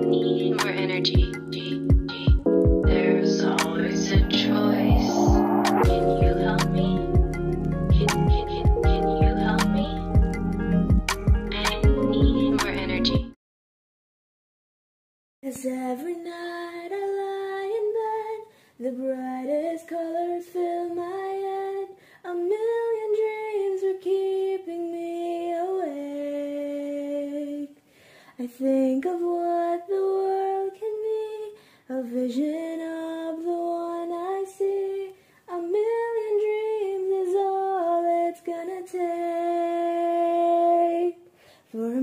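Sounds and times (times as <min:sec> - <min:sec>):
woman singing slow melody: 0:00.0 - 0:10.2, 0:11.5 - 0:13.2, 0:15.4 - 0:27.8, 0:28.4 - 0:42.0.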